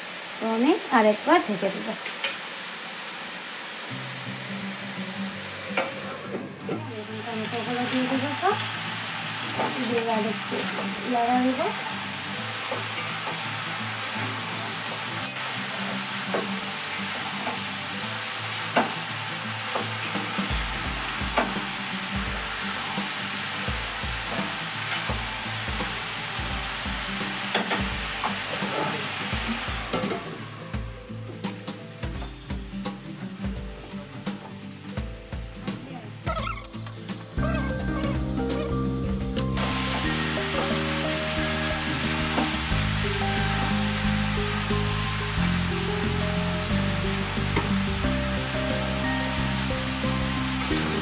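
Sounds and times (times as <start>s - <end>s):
vegetables sizzling in a pan: 0.0s - 51.0s.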